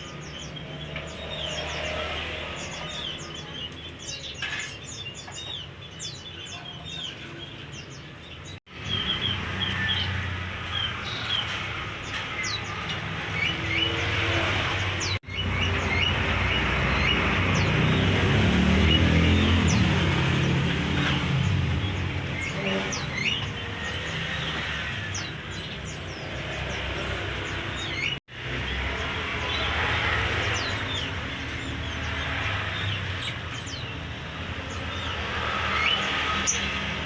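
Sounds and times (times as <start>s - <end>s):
songbirds chirping and twittering: 0.0s - 37.0s.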